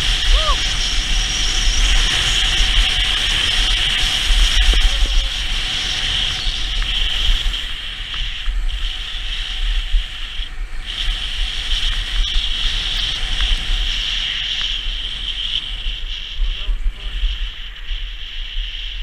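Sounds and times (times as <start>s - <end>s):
skis scraping on snow: 0.0s - 19.0s
wind rumble on microphone: 0.0s - 19.0s.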